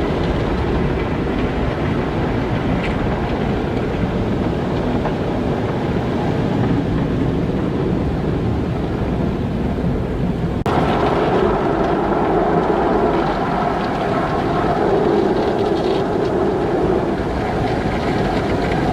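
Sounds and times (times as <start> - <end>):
car wash humming: 0.0 - 18.9
car wash machinery rumble: 0.0 - 18.9.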